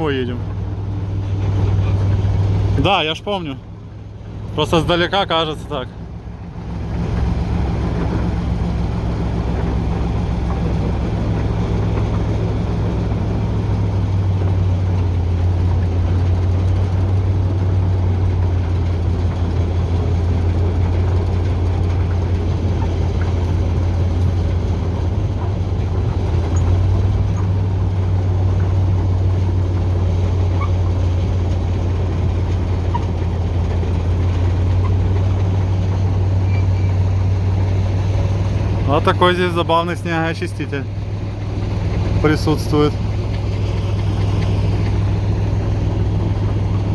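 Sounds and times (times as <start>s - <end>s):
diesel locomotive engine running: 0.0s - 46.9s.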